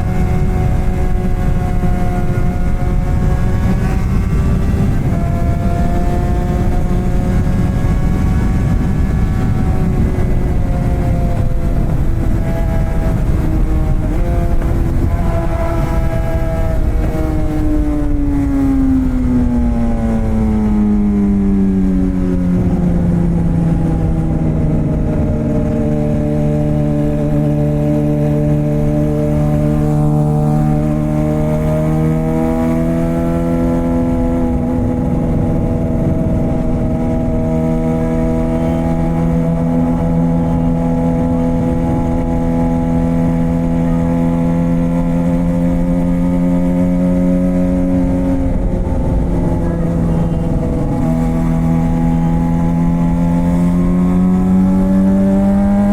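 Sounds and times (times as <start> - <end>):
motorcycle engine droning: 0.0 - 55.9.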